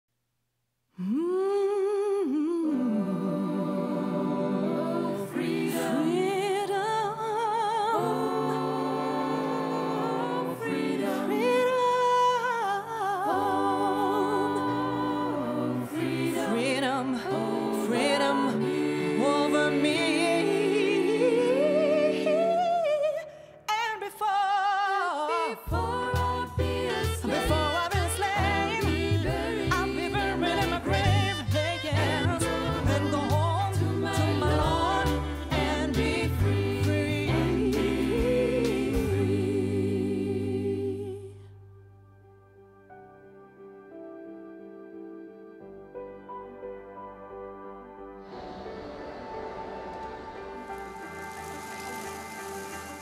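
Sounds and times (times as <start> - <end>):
voices singing with vibrato: 1.0 - 41.6, 48.2 - 53.0.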